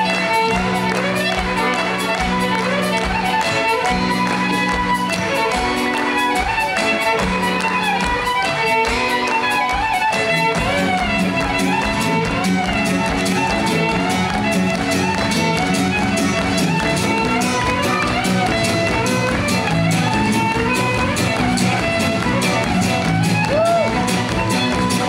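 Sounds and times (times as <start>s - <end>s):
folk-rock band playing: 0.0s - 25.0s
violin melody: 0.0s - 25.0s.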